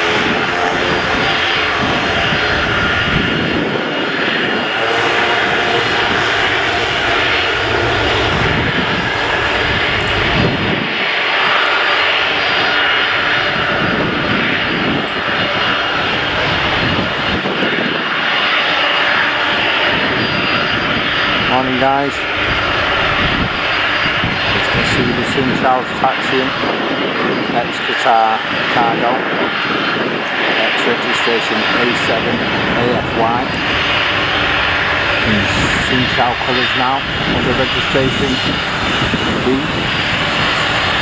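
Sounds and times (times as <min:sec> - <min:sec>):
jet engines whining: 0:00.0 - 0:41.0.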